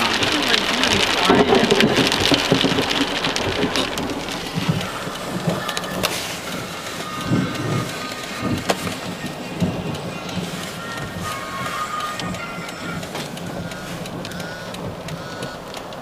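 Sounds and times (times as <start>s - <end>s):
heavy rain pouring: 0.0s - 16.0s
thunder rumbling: 0.0s - 16.0s.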